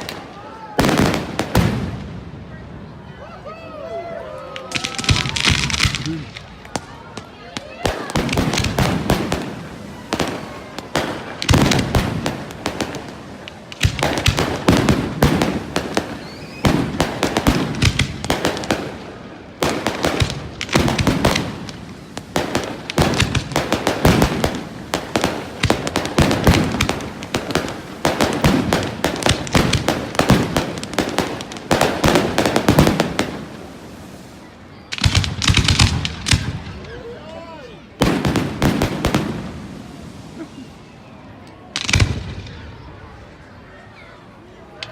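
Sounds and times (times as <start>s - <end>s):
fireworks bangs and crackles: 0.0s - 3.0s, 4.5s - 41.0s, 41.6s - 43.5s.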